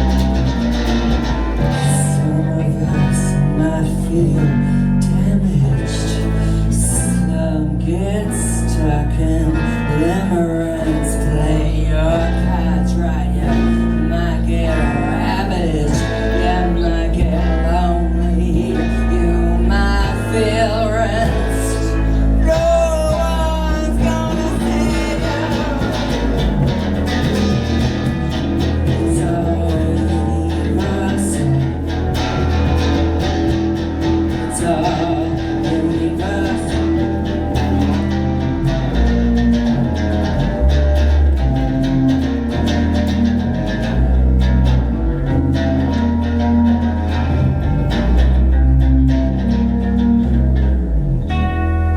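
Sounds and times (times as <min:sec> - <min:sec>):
person singing: 0:00.0 - 0:44.2
bass guitar: 0:00.0 - 0:51.9
electric guitar: 0:00.0 - 0:51.9.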